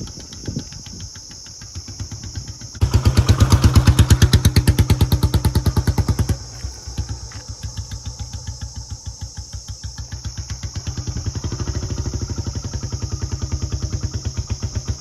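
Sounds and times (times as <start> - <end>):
motorcycle engine thumping: 0.0 - 15.0.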